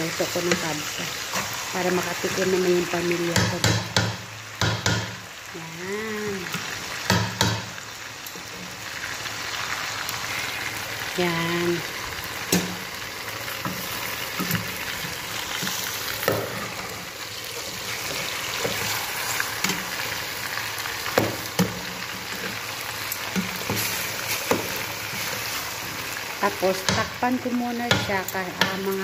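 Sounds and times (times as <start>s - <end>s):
chicken sizzling in a pot: 0.0s - 29.0s.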